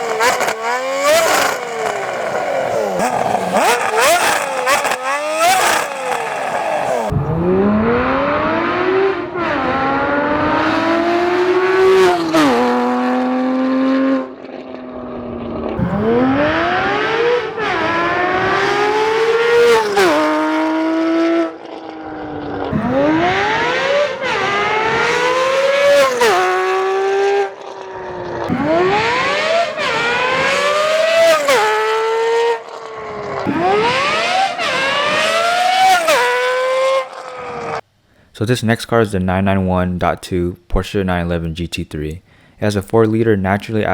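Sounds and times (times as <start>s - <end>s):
car engine accelerating hard: 0.0s - 37.8s.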